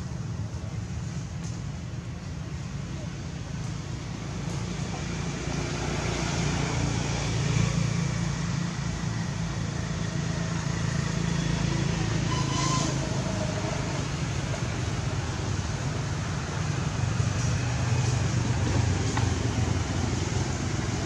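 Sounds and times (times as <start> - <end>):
low rumble of traffic: 0.0 - 21.0.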